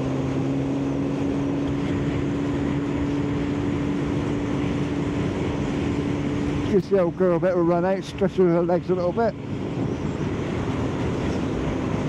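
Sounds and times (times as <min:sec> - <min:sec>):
motorcycle engine cruising: 0:00.0 - 0:12.0
wind rush over microphone: 0:00.0 - 0:12.0.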